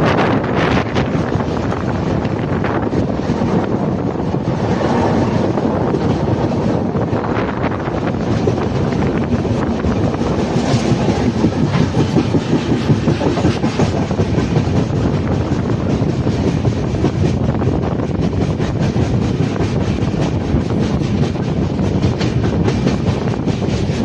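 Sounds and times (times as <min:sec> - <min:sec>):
train wheels clattering over joints: 0:00.0 - 0:24.0.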